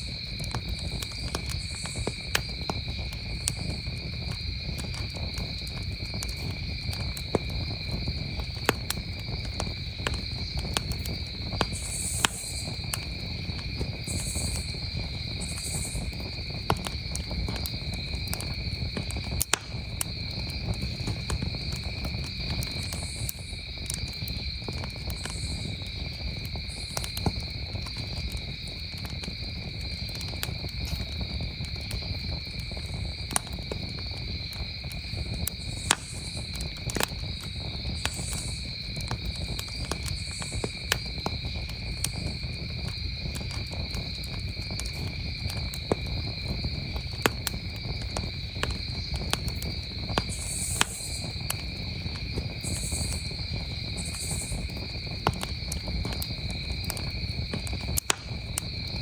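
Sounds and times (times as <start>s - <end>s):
campfire popping and crackling: 0.0s - 59.0s
crickets trilling: 0.0s - 59.0s.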